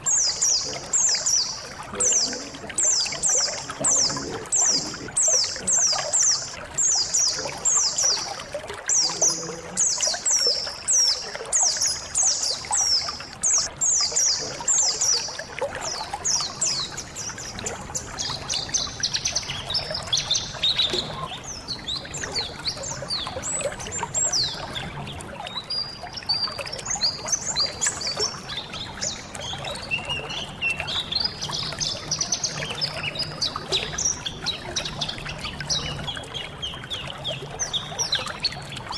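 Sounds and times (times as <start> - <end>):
birds chirping and twittering: 0.0 - 38.9
trickling water: 0.0 - 38.9.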